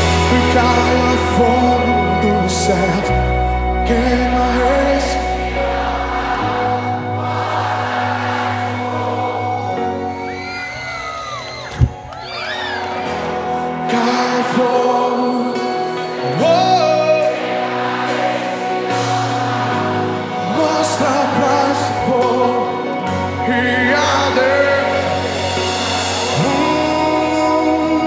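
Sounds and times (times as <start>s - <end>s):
steady bass: 0.0s - 10.2s, 12.9s - 28.0s
person singing: 0.0s - 11.1s, 12.8s - 28.0s
instrumental accompaniment: 0.0s - 28.0s.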